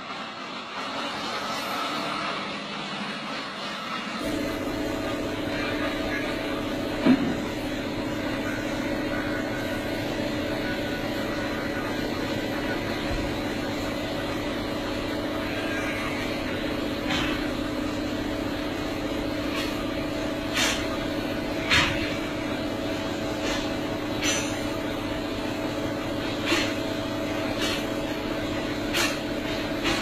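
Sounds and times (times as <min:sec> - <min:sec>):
steady machine drone: 0:00.0 - 0:30.0.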